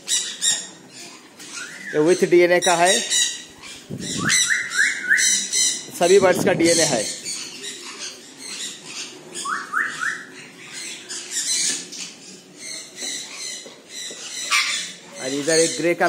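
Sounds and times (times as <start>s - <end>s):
parrots chattering: 0.0s - 16.0s.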